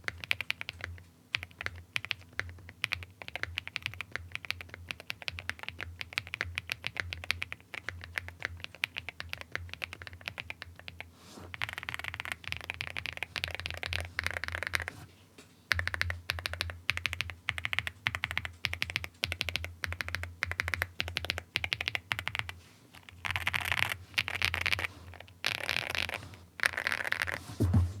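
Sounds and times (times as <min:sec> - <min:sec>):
mechanical keyboard typing: 0:00.0 - 0:10.6, 0:11.5 - 0:14.9, 0:15.7 - 0:27.3.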